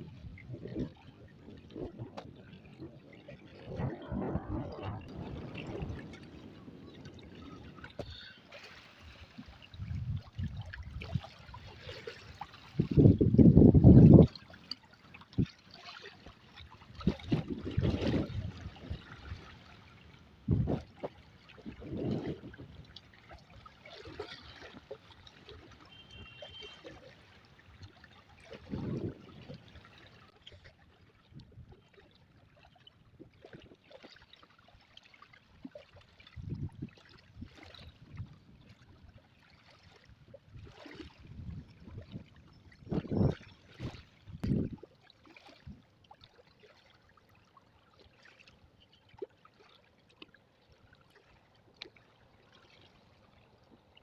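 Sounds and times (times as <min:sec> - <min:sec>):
river water trickling and splashing: 0:00.0 - 0:54.0.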